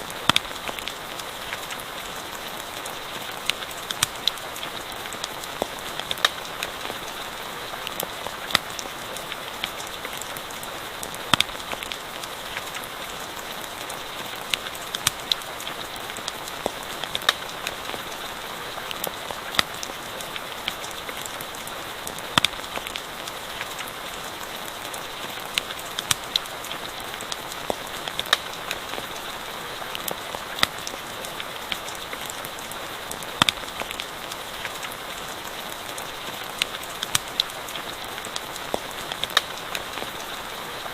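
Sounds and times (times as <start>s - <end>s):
campfire crackling and popping: 0.0s - 40.9s
steady rain: 0.0s - 40.9s.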